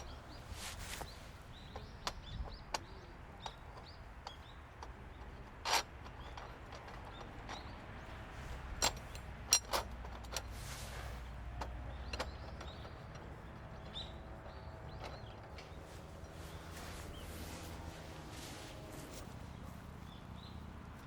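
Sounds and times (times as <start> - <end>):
sharp clicks and knocks: 0.0 - 19.4
low steady background noise: 0.0 - 21.0.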